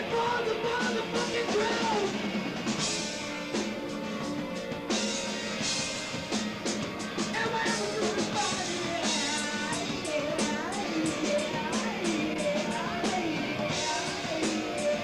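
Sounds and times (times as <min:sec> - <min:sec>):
bass guitar: 0:00.0 - 0:15.0
drum kit with cymbal hits: 0:00.0 - 0:15.0
electric guitar: 0:00.0 - 0:15.0.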